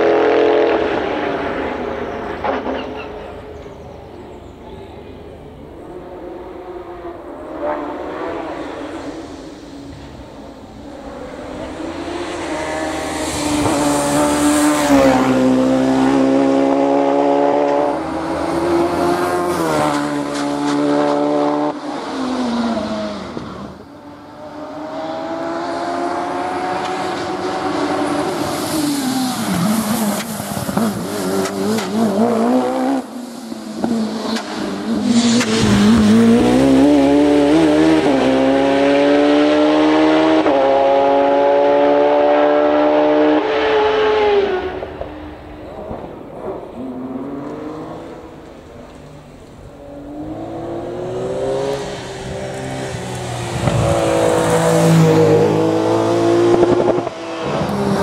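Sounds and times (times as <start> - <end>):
racing car engine at high revs: 0.0 - 3.2, 5.8 - 58.0.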